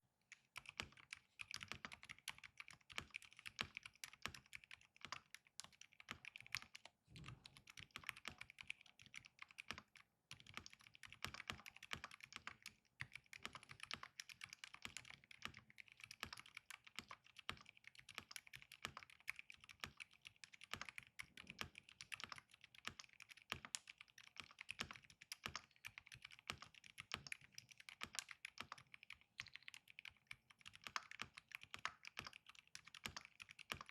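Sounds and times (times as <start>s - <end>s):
fast typing on mechanical keyboard: 0.4s - 33.9s.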